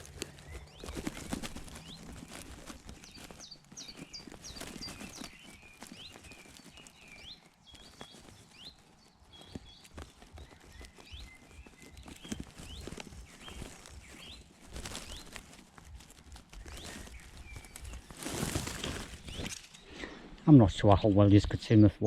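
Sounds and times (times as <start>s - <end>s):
rustles and knocks in hedge: 0.0s - 21.0s.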